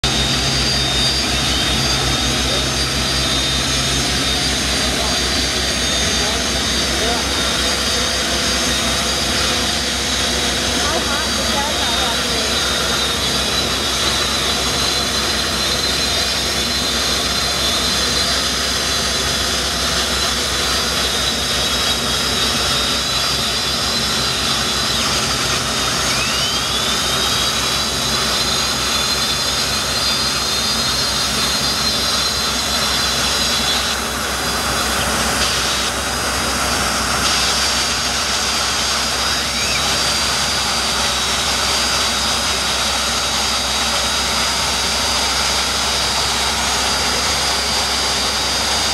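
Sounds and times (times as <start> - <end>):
turbine engine whine: 0.0 - 48.9.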